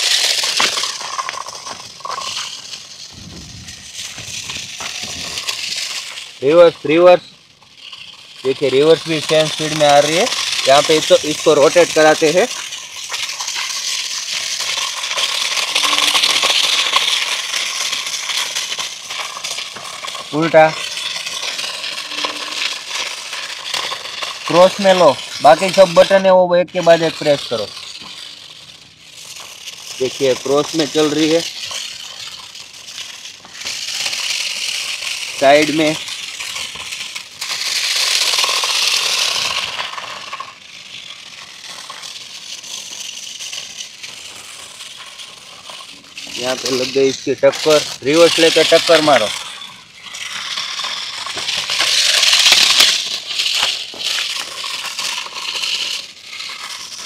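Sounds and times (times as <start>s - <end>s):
toy car motors whirring: 0.0s - 57.0s
wheels and drivetrain rattling: 0.0s - 57.0s.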